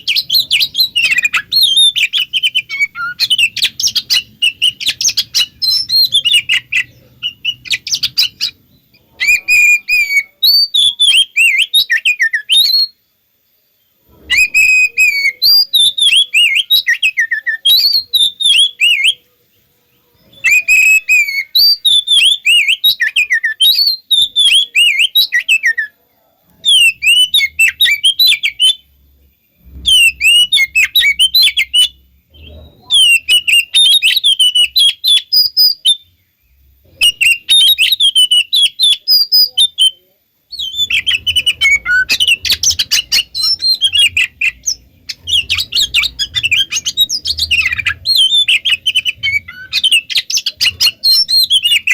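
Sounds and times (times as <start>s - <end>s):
magpie-robin singing whistles: 0.0s - 13.0s, 14.1s - 19.2s, 20.2s - 25.9s, 26.5s - 28.9s, 29.6s - 51.9s.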